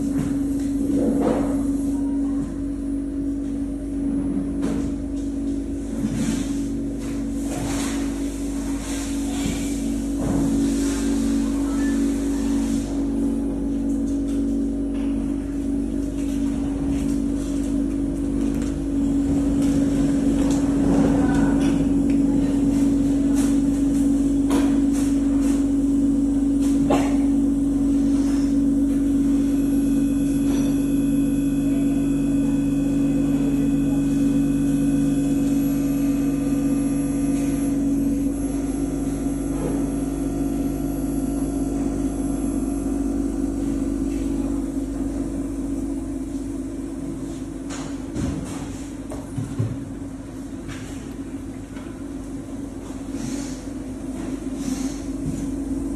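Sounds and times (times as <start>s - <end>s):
grinder motor hum: 0.0s - 53.3s.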